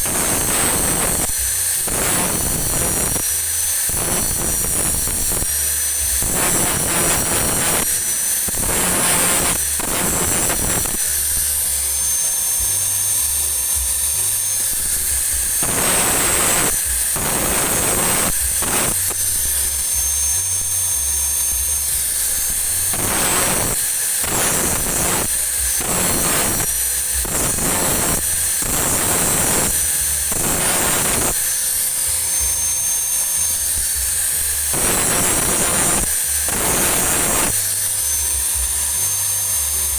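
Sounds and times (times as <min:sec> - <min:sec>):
electric grinder whining: 0:00.0 - 0:39.9
grinder grinding metal: 0:00.0 - 0:39.9.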